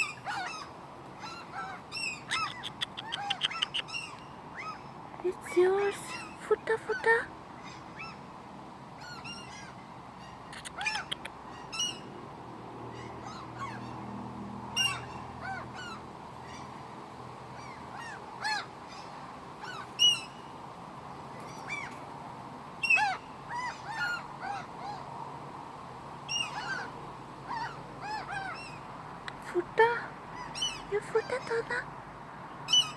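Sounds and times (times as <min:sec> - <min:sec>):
seagulls calling: 0:00.0 - 0:08.3, 0:09.0 - 0:12.1, 0:12.9 - 0:14.0, 0:14.7 - 0:16.8, 0:17.5 - 0:20.5, 0:21.3 - 0:22.0, 0:22.8 - 0:25.1, 0:26.3 - 0:31.9, 0:32.7 - 0:32.9
steady background hiss: 0:00.0 - 0:32.9.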